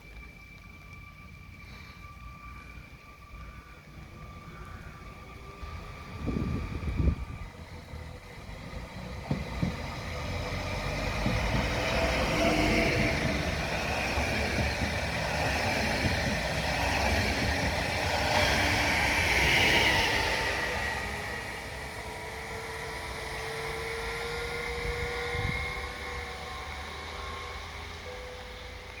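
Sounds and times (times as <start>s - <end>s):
faint train whine: 0.0s - 29.0s
train wheels rumbling: 0.0s - 29.0s.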